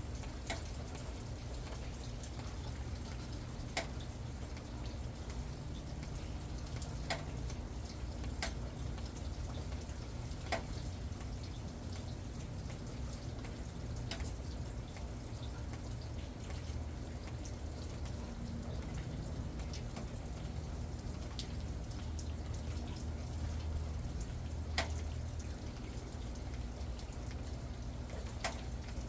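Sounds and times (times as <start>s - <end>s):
rainwater dripping: 0.0s - 29.0s.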